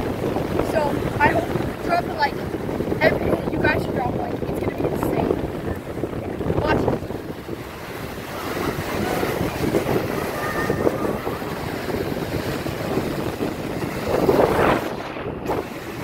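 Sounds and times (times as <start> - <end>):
surf breaking on beach: 0.0 - 16.0
wind rumbling on microphone: 0.0 - 16.0.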